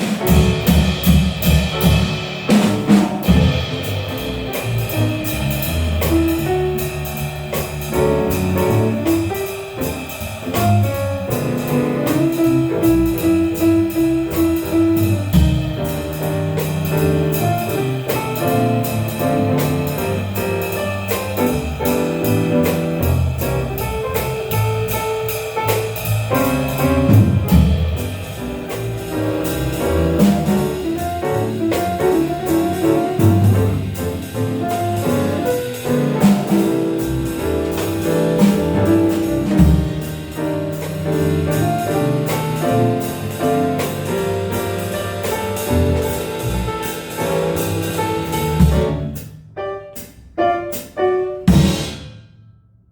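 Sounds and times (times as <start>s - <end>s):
walking bass: 0.0s - 49.3s
jazz trio playing swing: 0.0s - 52.2s
piano lines: 0.0s - 52.2s.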